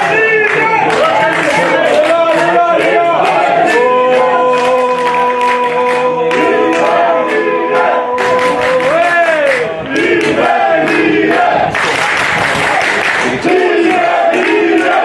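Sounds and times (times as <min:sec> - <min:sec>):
crowd singing and chanting: 0:00.0 - 0:15.0.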